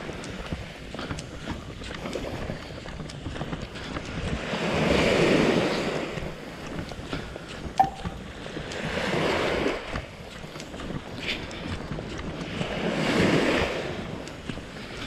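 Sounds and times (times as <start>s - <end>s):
waves washing onto sandy beach: 0.0s - 7.6s, 8.3s - 15.0s.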